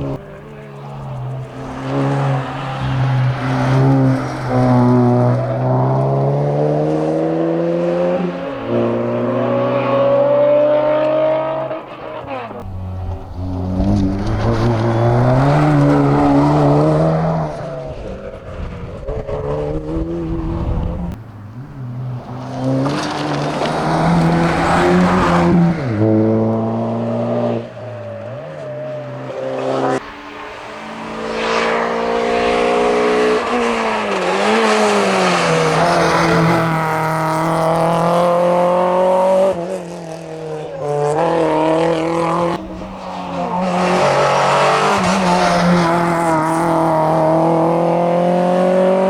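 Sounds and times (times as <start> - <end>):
rally car engine at full throttle: 0.0 - 49.0.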